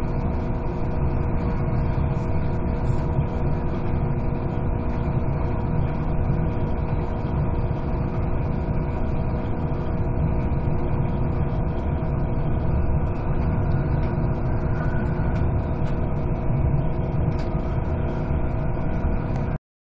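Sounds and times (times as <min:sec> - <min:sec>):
steady tonal hum: 0:00.0 - 0:19.6
train rumbling inside carriage: 0:00.0 - 0:19.6.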